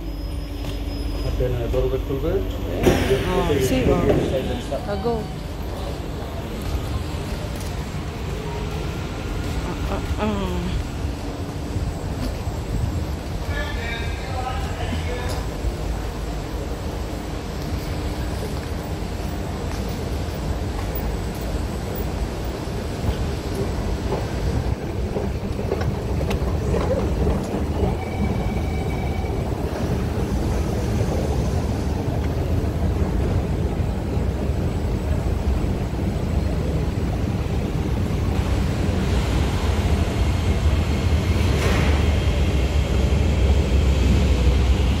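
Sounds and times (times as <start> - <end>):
train rumbling: 0.0 - 45.0.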